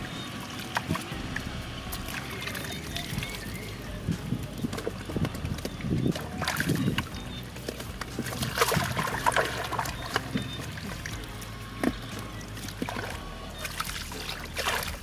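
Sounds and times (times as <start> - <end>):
shallow water splashing: 0.0 - 15.0.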